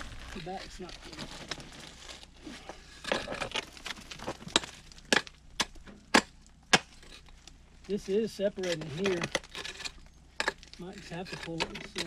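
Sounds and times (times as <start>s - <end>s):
hand tools scraping rock: 0.0s - 12.0s.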